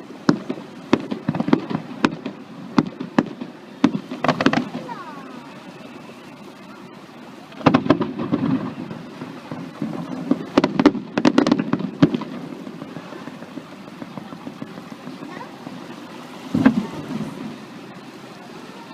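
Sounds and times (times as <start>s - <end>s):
fireworks bangs and crackles: 0.0s - 18.9s.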